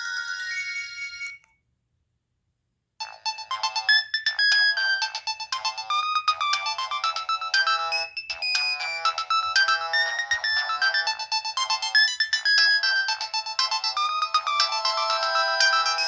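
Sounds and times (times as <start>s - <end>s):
mobile phone ringtone: 0.0s - 1.4s, 3.0s - 16.0s.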